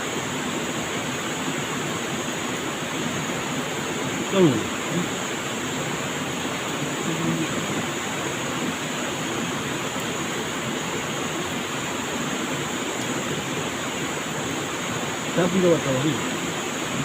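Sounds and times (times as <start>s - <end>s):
high-pitched hiss: 0.0s - 17.0s
river water rushing: 0.0s - 17.0s.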